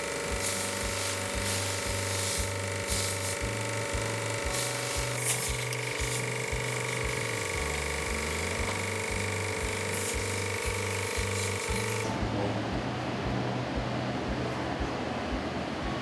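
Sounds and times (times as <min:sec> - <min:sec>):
mechanical whine and hiss: 0:00.0 - 0:16.0
music with beat and bass: 0:00.0 - 0:16.0.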